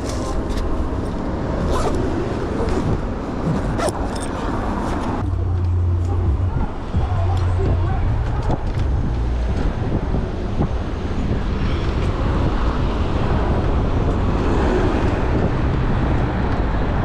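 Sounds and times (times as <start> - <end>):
road noise: 0.0 - 17.0
wind rush on microphone: 0.0 - 17.0.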